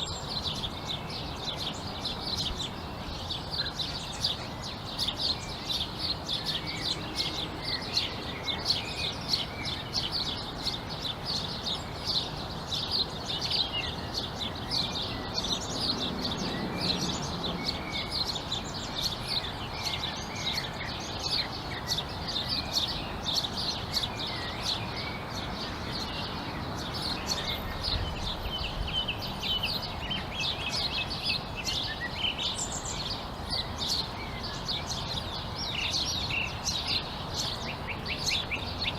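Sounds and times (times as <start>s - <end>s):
low background noise: 0.0s - 38.9s
small birds chirping: 0.0s - 38.9s.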